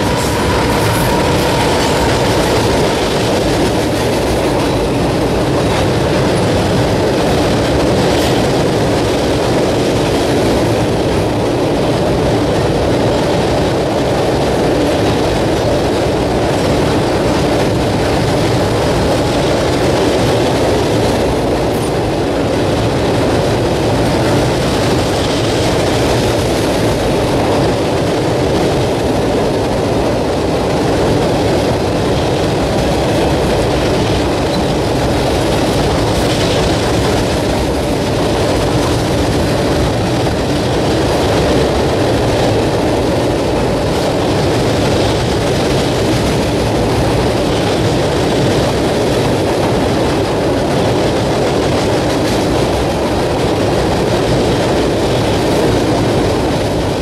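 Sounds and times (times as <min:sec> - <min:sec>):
train wheels rumbling on bridge: 0:00.0 - 0:57.0.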